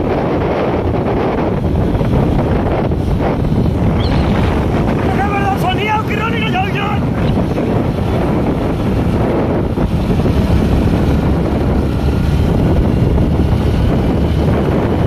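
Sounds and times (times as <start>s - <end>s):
scooter engine and road noise: 0.0s - 15.0s
wind buffeting microphone: 0.0s - 15.0s.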